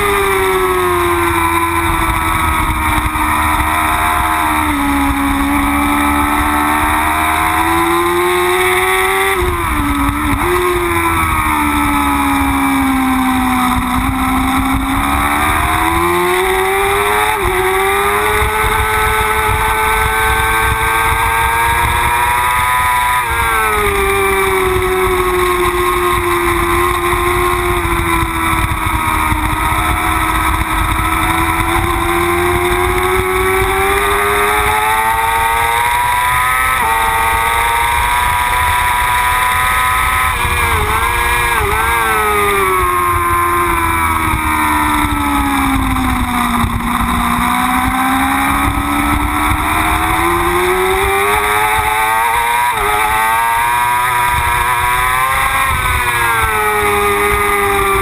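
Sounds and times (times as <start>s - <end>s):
motorcycle engine at speed: 0.0s - 58.0s
wind rumbling over camera: 0.0s - 58.0s.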